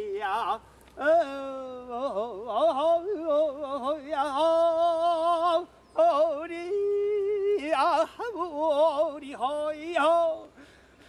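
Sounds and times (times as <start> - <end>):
man singing folk song with vibrato: 0.0 - 11.0.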